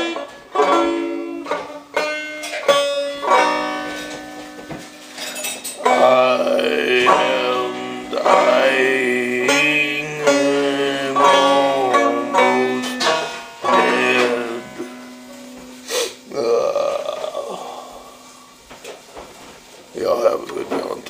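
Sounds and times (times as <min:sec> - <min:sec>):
banjo music: 0:00.0 - 0:17.2.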